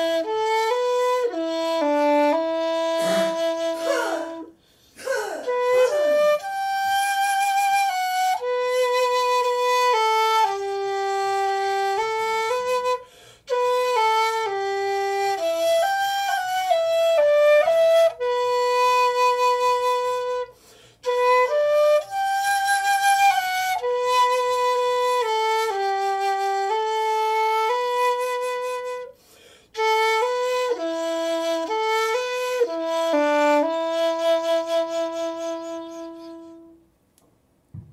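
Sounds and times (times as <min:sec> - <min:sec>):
bamboo flute melody: 0:00.0 - 0:04.6, 0:05.2 - 0:36.9.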